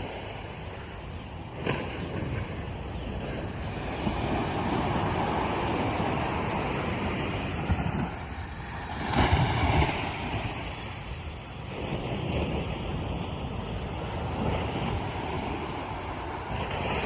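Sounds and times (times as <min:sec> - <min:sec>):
ocean waves on beach: 0:00.0 - 0:17.0.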